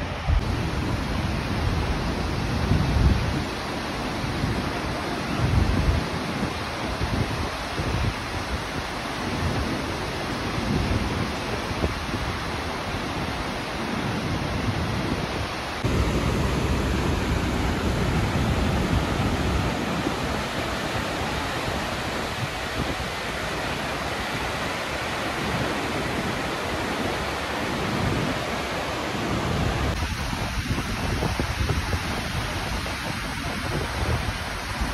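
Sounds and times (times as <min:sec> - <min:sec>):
waterfall roaring: 0:00.0 - 0:34.9
wind gusting on microphone: 0:00.0 - 0:34.9.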